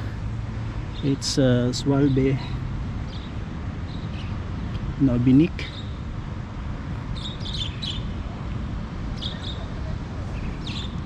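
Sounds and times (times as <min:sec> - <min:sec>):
birds chirping: 0:00.0 - 0:06.4, 0:07.0 - 0:11.0
low outdoor rumble: 0:00.0 - 0:11.0.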